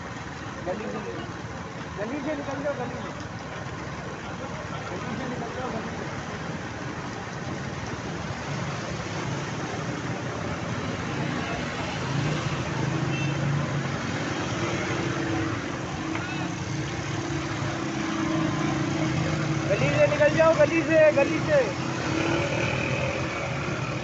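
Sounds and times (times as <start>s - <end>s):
traffic noise: 0.0s - 24.0s
water noise: 0.0s - 24.0s.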